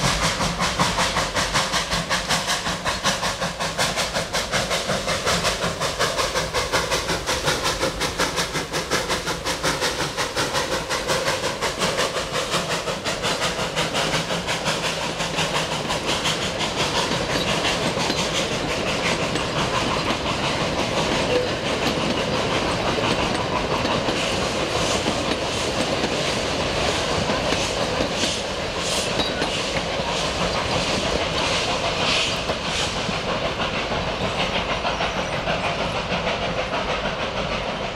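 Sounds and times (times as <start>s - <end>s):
steam locomotive chuffing: 0.0s - 37.9s
train wheels clicking over rail joints: 0.0s - 37.9s.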